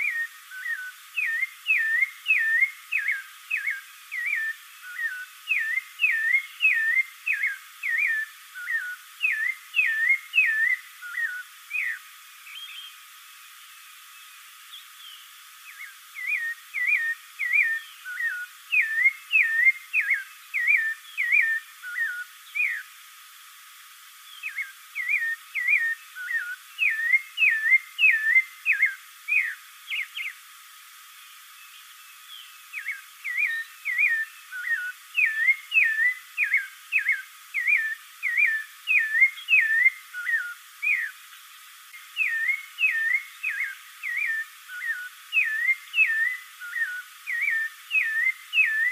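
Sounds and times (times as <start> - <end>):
thrush singing whistled notes: 0.0 - 23.1, 24.2 - 30.5, 31.2 - 48.9.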